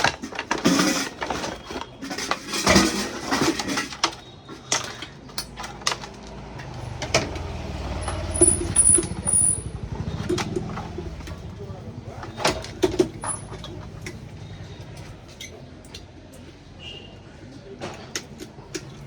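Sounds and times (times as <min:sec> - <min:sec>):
small hard parts clicking: 0:00.0 - 0:16.1.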